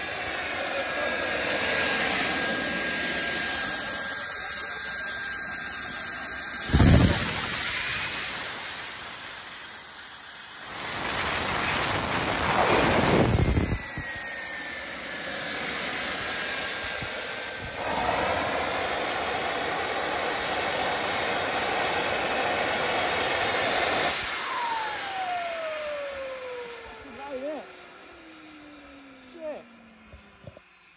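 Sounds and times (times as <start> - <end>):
jet engine hissing and whining: 0.0 - 30.9.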